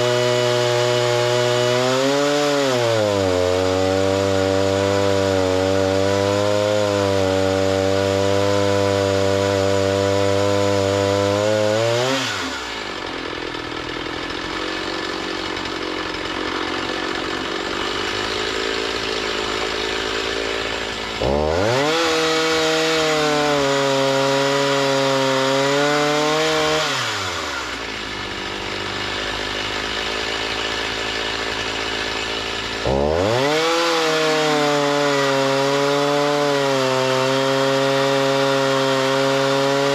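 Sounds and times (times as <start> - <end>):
gas engine saw milling log: 0.0 - 39.9.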